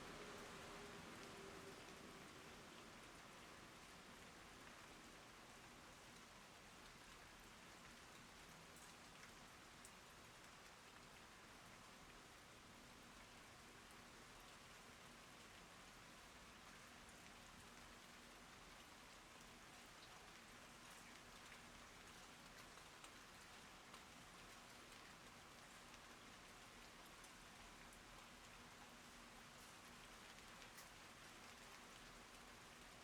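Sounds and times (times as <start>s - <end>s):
rain falling on plants: 0.0s - 33.0s.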